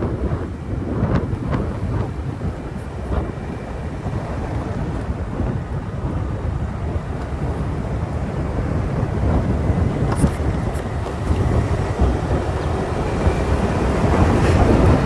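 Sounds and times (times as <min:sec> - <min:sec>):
wind buffeting microphone: 0:00.0 - 0:15.0
motorbike engine: 0:01.2 - 0:15.0.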